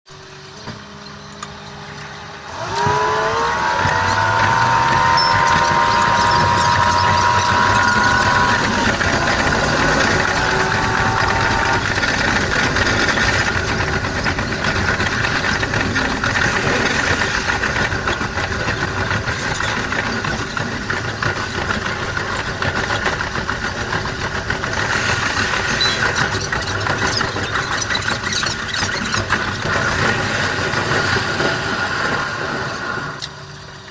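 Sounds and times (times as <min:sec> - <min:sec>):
train rumbling on rails: 0:02.2 - 0:33.9.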